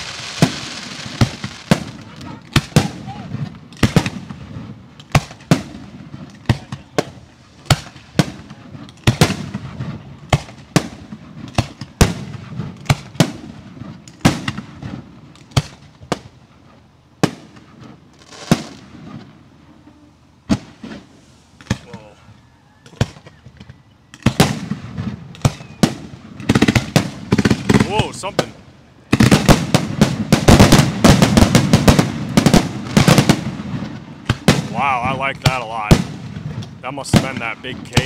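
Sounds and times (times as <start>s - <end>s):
fireworks bangs: 0.0s - 22.2s, 22.8s - 38.0s.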